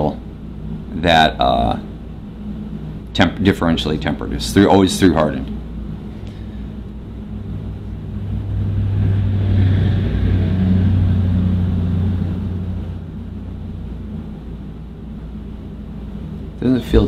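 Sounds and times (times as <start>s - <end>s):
low rumbling hum: 0.0s - 17.0s.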